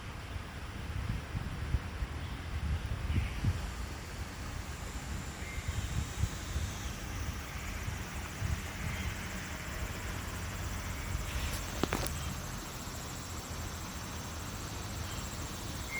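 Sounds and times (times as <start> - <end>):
faint outdoor background noise: 0.0 - 15.9
wind rumbling on microphone: 0.4 - 14.6.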